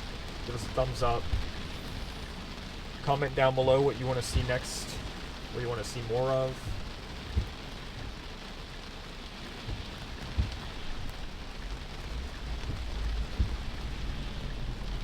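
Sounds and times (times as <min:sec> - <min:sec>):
heavy rain on a car: 0:00.0 - 0:15.0
low road rumble: 0:00.0 - 0:15.0.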